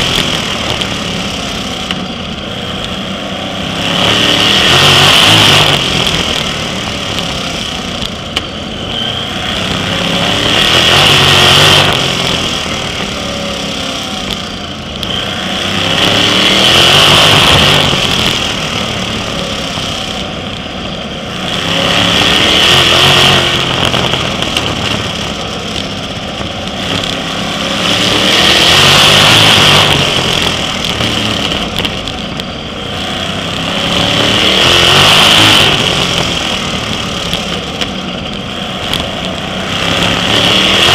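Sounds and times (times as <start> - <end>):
race car engines racing: 0.0 - 40.9.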